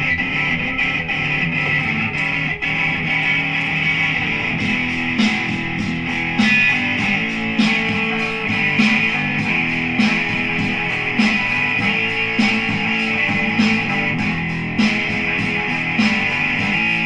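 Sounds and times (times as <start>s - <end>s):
strummed guitar music over a beat: 0.0s - 17.0s.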